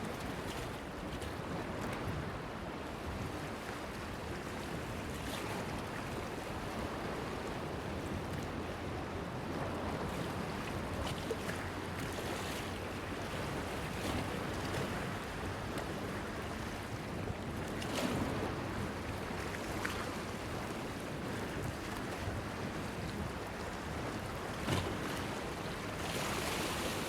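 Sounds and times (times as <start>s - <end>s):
waves lapping against stone pier: 0.0s - 27.0s.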